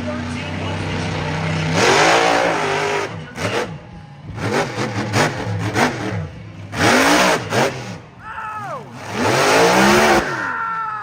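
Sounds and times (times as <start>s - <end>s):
truck engine revving: 0.0s - 8.2s, 8.8s - 10.5s.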